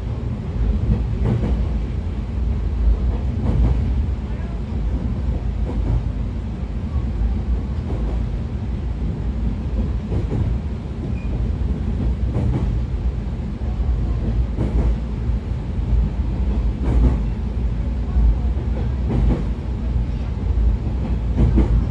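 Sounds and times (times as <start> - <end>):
wheels rumbling on rail: 0.0 - 21.9.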